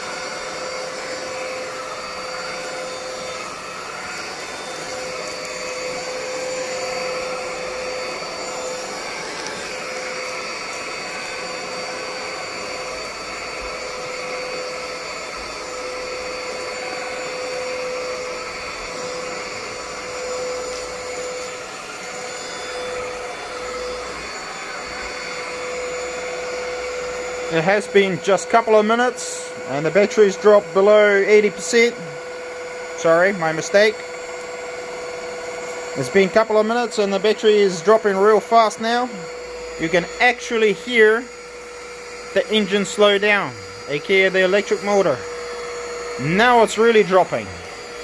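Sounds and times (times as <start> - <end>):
vacuum cleaner motor whining: 0.0 - 48.0.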